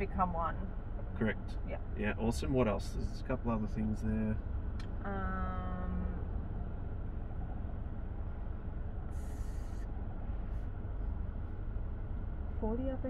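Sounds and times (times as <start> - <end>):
car engine idling: 0.0 - 13.0
cross traffic passing: 0.0 - 13.0.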